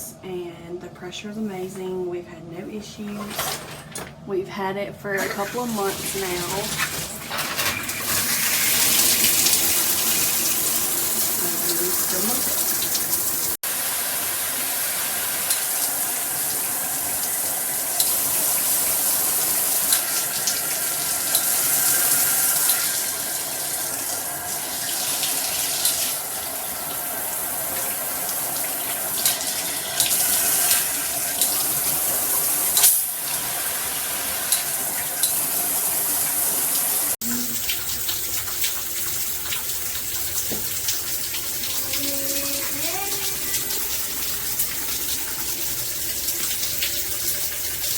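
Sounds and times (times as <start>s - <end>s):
shower head spraying water: 5.2s - 47.9s.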